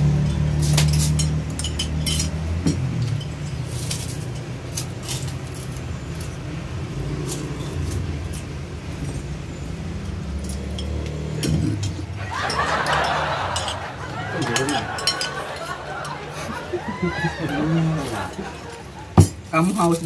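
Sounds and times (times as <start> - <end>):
spoons clinking on plates: 0.1 - 20.0.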